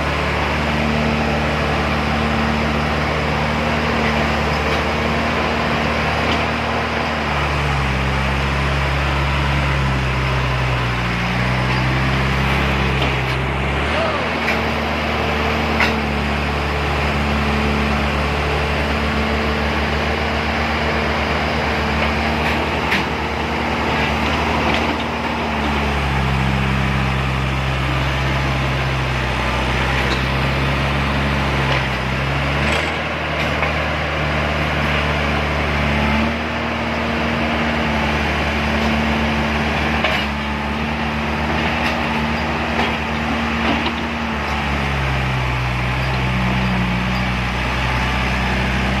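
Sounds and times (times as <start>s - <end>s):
heavy diesel engine under load: 0.0s - 49.0s.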